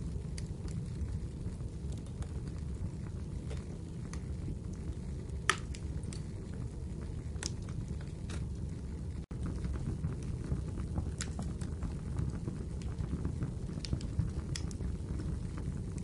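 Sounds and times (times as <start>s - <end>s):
fire crackles and pops: 0.0s - 16.0s
fire rumbling in fireplace: 0.0s - 16.0s.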